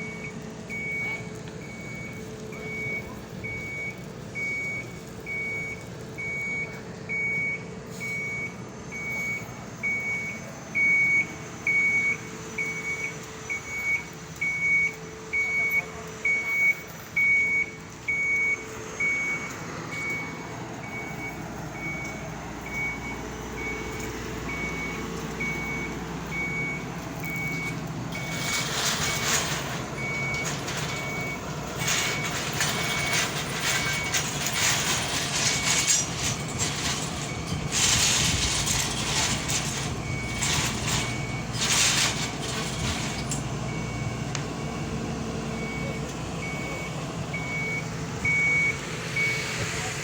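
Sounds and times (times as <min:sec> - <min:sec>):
reversing alarm beeping: 0:00.0 - 0:49.6
engine running low: 0:00.0 - 0:50.0.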